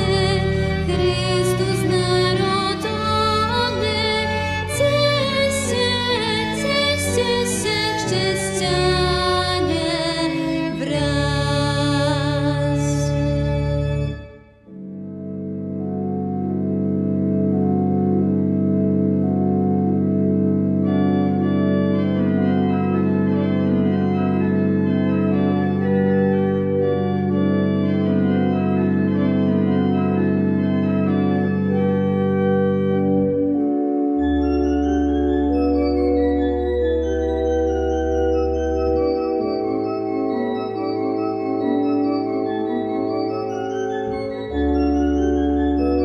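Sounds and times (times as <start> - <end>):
church pipe organ chords: 0.0 - 46.0.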